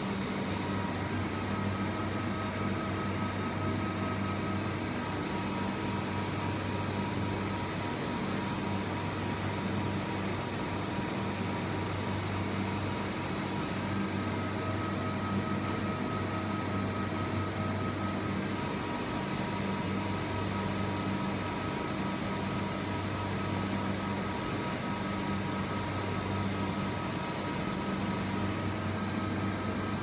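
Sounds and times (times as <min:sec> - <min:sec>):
machine hum with constant tones: 0:00.0 - 0:30.0.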